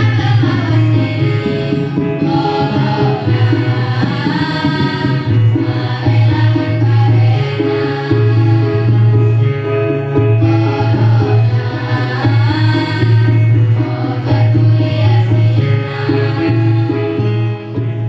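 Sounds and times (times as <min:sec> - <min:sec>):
choir singing: 0:00.0 - 0:09.3, 0:10.4 - 0:17.5
rhythmic drum: 0:00.0 - 0:18.0
steady bass: 0:00.0 - 0:18.0.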